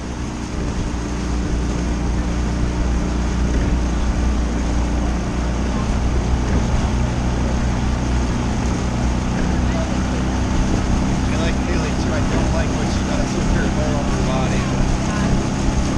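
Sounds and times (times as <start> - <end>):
outboard motor humming: 0.0 - 15.9
wind and water rushing: 0.0 - 15.9.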